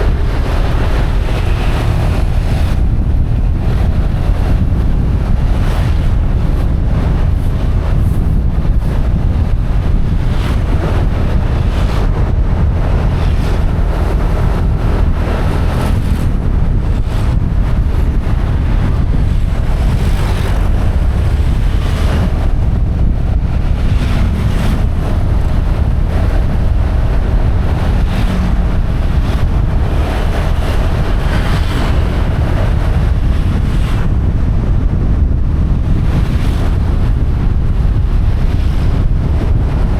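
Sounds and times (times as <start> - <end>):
motorbike running: 0.0 - 39.9
road noise: 0.0 - 39.9
wind buffeting microphone: 0.0 - 39.9.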